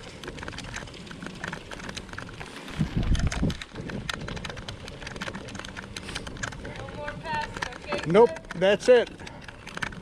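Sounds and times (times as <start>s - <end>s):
bicycle clicks and rattles: 0.0s - 10.0s
wind buffeting microphone: 1.8s - 10.0s.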